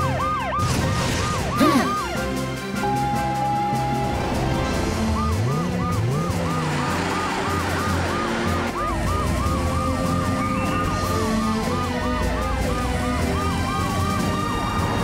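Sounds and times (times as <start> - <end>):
background music: 0.0 - 15.0
wailing siren: 0.0 - 15.0
yelping siren: 1.3 - 15.0.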